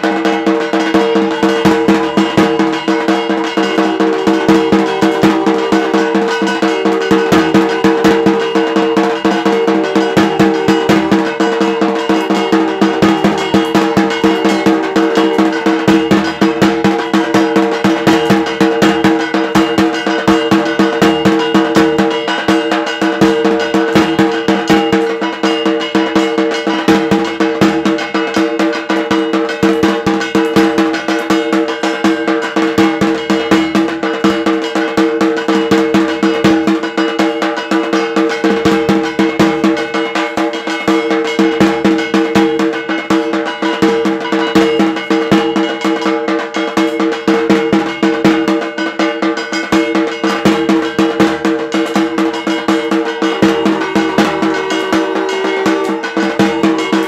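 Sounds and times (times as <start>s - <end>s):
clattering percussion: 0.0s - 57.0s
fast drumming: 0.0s - 57.0s
steady ringing tone: 0.1s - 46.2s, 49.5s - 57.0s.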